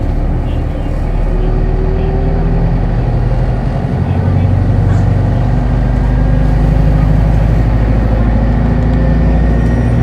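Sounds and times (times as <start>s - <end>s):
bus diesel engine running: 0.0s - 10.0s.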